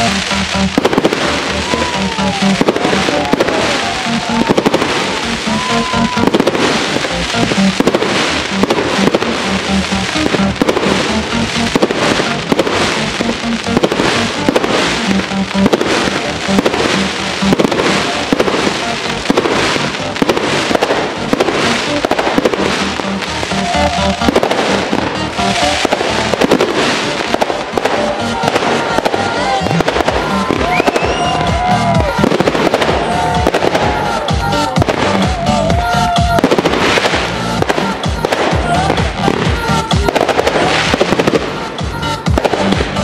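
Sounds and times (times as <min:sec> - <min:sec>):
fireworks bursting: 0:00.0 - 0:43.0
music playing: 0:00.0 - 0:43.0.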